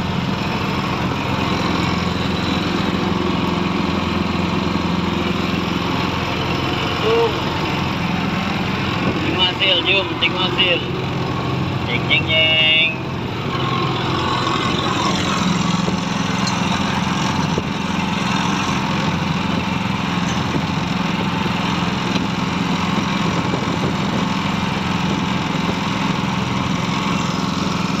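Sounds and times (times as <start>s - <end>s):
engine humming: 0.0s - 28.0s
wind: 0.0s - 28.0s.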